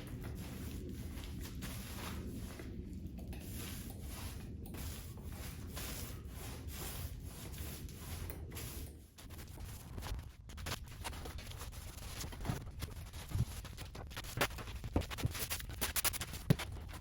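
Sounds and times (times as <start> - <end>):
scratchy rubbing strokes: 0.0 - 17.0.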